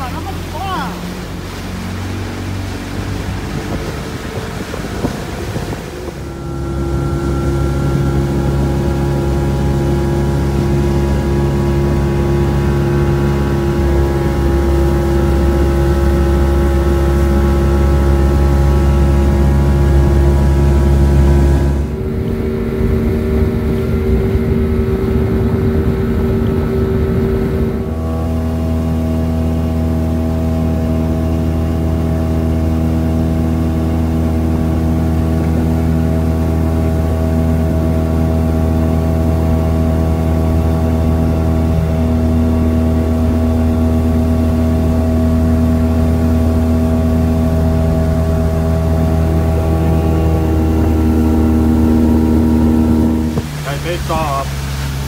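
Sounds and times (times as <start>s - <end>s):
motorboat engine droning: 0.0s - 55.0s
rush of wind and water: 0.0s - 55.0s.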